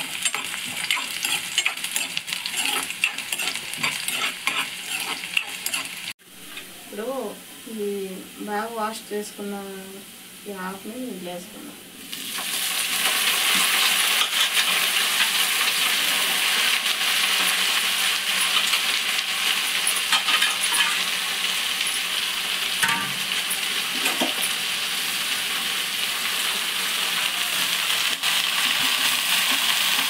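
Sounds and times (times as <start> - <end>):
leaves sizzling in hot oil: 0.0 - 30.0.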